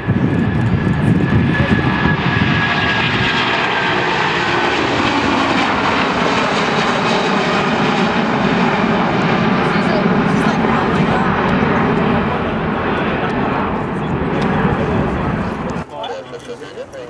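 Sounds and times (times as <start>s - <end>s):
jet engine roar with high whine: 0.0s - 17.0s.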